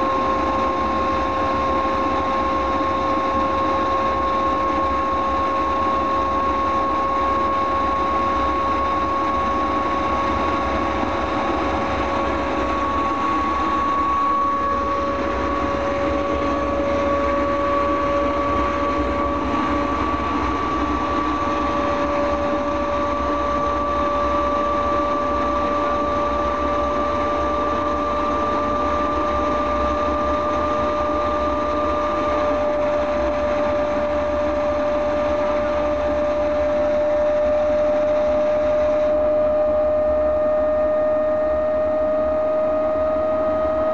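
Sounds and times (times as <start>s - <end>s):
turbojet engine running: 0.0s - 43.9s.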